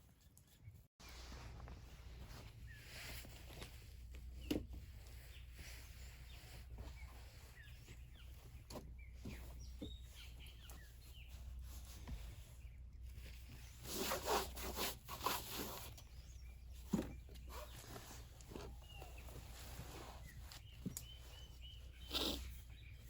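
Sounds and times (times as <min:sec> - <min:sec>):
rustling: 0:00.1 - 0:23.0.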